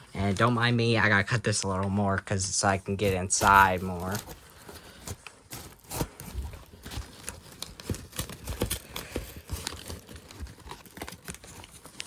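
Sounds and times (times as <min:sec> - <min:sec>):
newspaper crinkling: 0:00.0 - 0:12.0.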